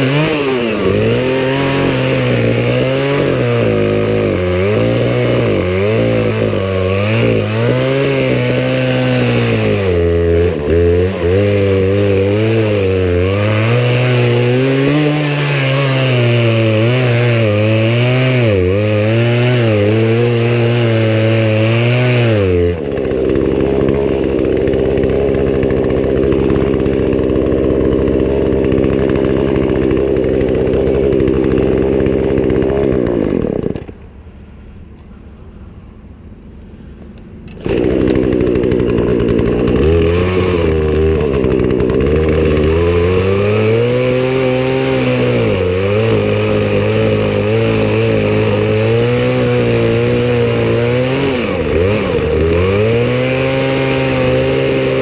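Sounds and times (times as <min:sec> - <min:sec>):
chainsaw cutting and idling: 0:00.0 - 0:34.8, 0:36.1 - 0:55.0.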